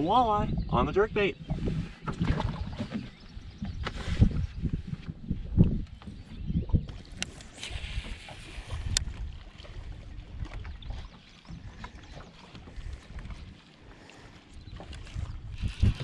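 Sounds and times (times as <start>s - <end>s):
water lapping at boat hull: 0.0s - 16.0s
wind rumbling on microphone: 0.0s - 16.0s.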